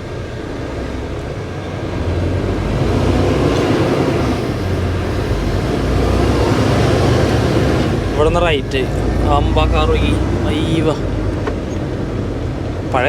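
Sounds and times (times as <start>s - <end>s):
truck diesel engine under load: 0.0s - 13.0s.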